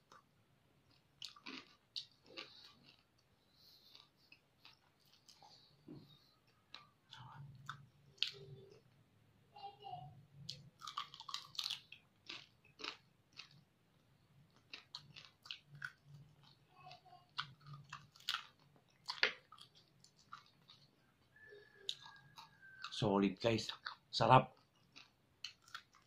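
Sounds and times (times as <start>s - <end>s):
person chewing crispy food: 0.0s - 8.9s, 10.4s - 23.0s, 23.7s - 26.0s.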